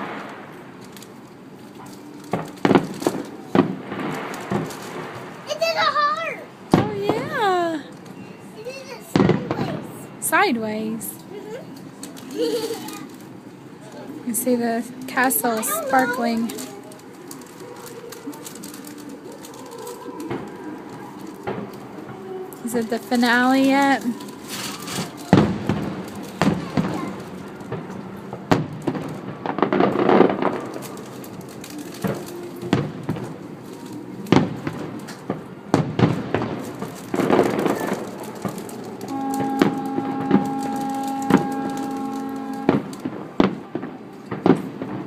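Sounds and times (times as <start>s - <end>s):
distant fireworks bangs: 0.0s - 45.0s.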